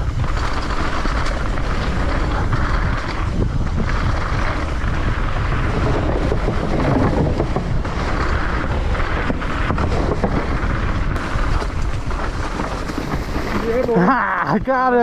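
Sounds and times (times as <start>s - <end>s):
mountain bike rumbling and rattling: 0.0s - 15.0s
wind buffeting microphone: 0.0s - 15.0s.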